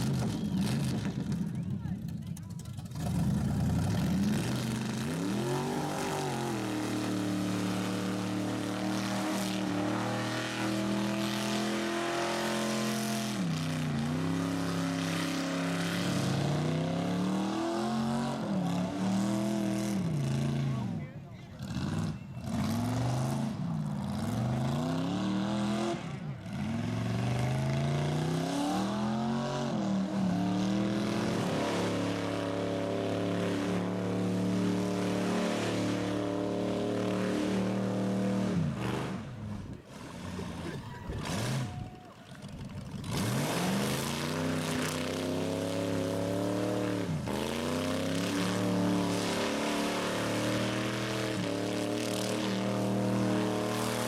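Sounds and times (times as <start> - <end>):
car engine revving hard: 3.0 - 21.0, 21.6 - 54.0.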